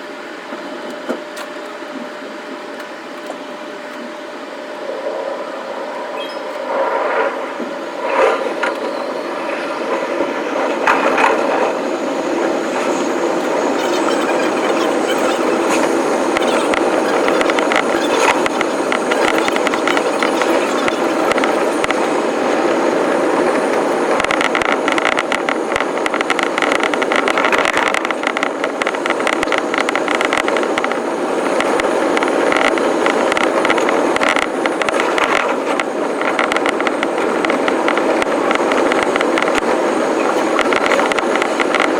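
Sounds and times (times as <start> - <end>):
train rumbling on rails: 0.0 - 41.9.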